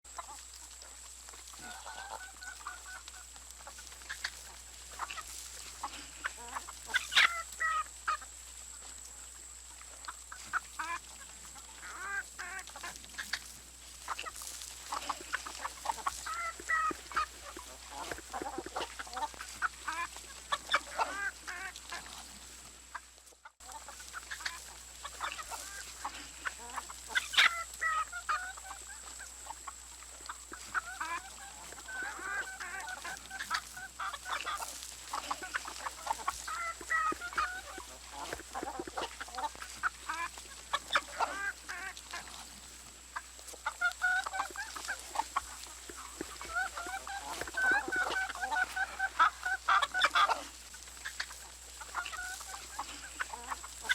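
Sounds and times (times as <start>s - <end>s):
chickens clucking: 0.0s - 53.9s
chicken squawks: 1.5s - 8.3s, 10.3s - 23.0s, 23.6s - 42.6s, 43.2s - 53.9s.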